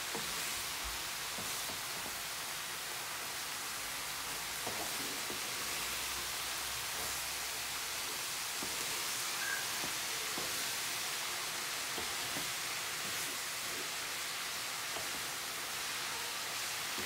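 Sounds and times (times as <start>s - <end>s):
cabbage sizzling in a pan: 0.0s - 17.0s.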